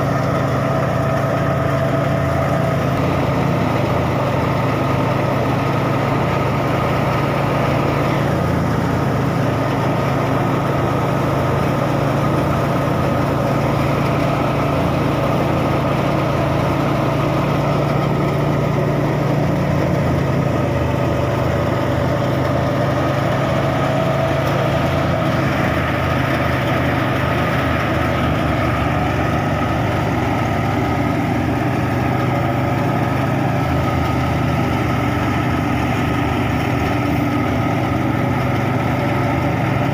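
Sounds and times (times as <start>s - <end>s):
thresher drum whirring: 0.0s - 39.9s
tractor diesel engine running: 0.0s - 39.9s.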